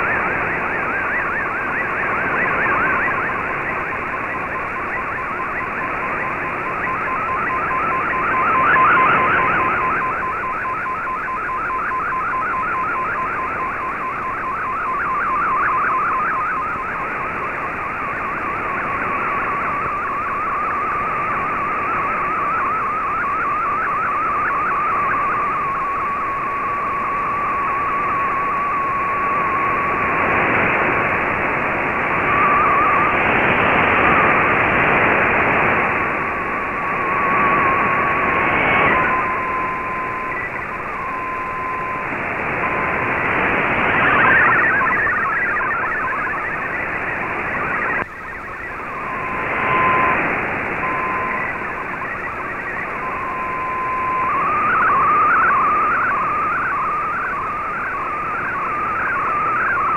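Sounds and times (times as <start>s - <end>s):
fast-changing data tones: 0.0s - 59.9s
radio hiss: 0.0s - 59.9s
wavering data tone: 0.0s - 59.9s.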